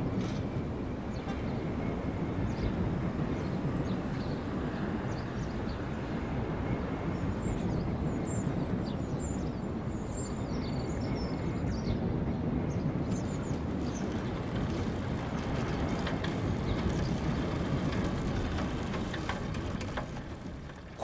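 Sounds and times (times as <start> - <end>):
distant traffic rumble: 0.0 - 21.0.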